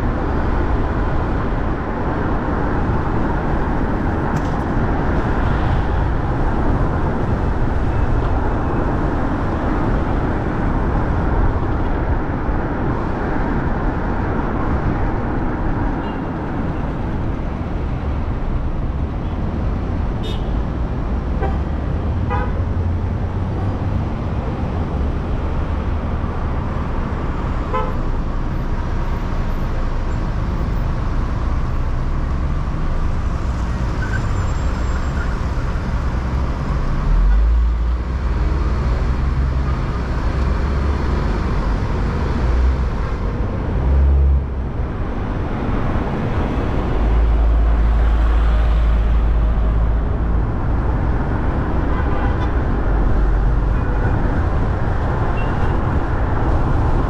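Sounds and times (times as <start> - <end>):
road traffic noise: 0.0 - 57.0
vehicle ride rumble: 0.0 - 57.0.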